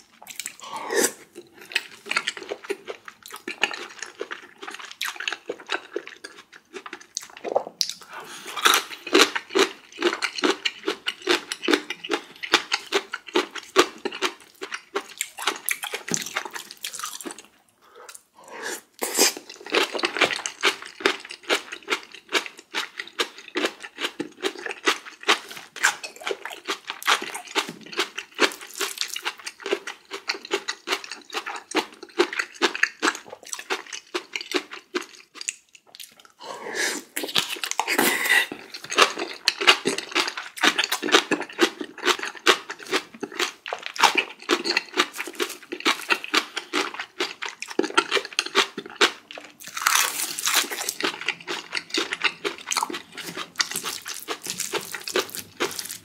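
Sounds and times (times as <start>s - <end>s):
mouth chewing: 0.2s - 56.0s.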